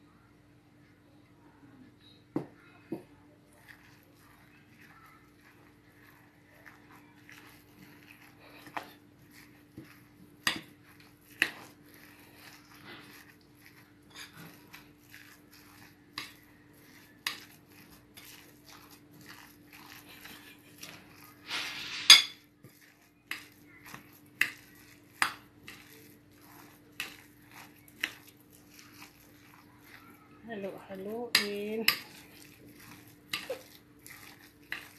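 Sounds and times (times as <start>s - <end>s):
soft scraping in bowl: 3.0s - 34.9s.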